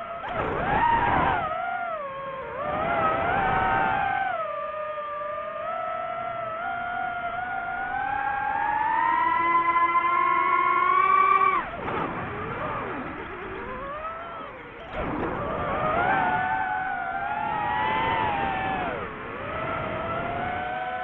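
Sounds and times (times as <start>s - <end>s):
quadcopter propellers whining: 0.0s - 21.0s.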